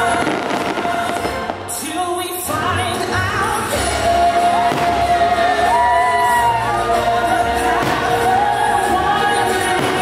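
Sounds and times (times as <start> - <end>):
song with sung melody: 0.0 - 10.0.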